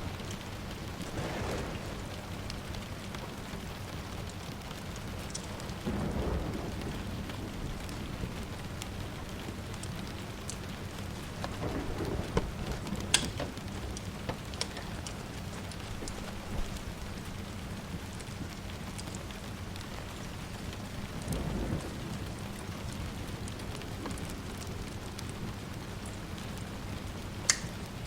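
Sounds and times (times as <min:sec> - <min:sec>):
distant thunder rolls: 0:00.0 - 0:27.9
steady rain: 0:00.0 - 0:28.0
wood fire popping: 0:00.0 - 0:28.0.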